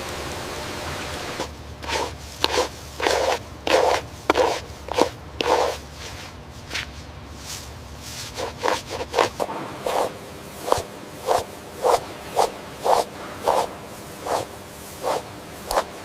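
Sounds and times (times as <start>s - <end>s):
rubbing or scraping strokes: 1.3s - 16.0s.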